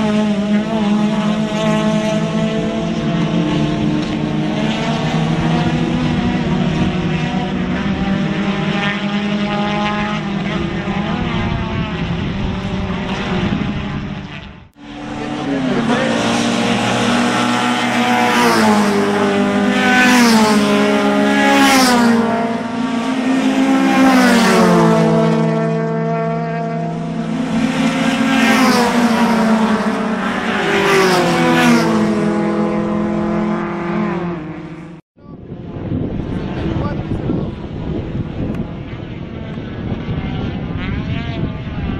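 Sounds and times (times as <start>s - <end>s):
race cars passing: 0.0s - 41.9s.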